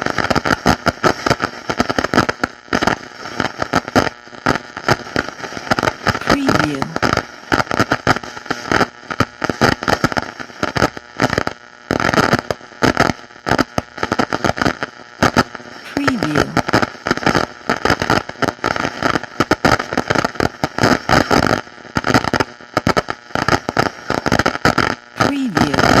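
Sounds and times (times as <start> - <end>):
static crackling and hiss: 0.0 - 26.0.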